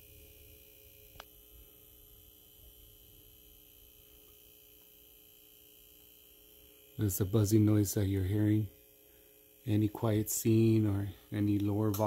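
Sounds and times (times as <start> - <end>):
projector buzzing: 0.0 - 12.0.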